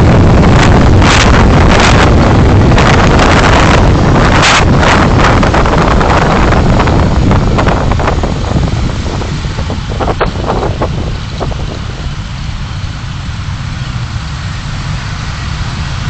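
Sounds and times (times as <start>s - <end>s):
road and engine rumble: 0.0s - 16.0s
wind noise: 0.0s - 16.0s.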